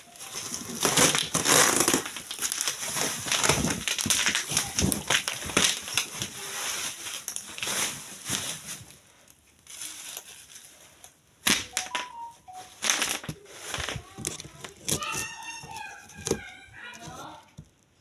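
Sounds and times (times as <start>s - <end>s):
packaging rustling and crinkling: 0.0s - 18.0s.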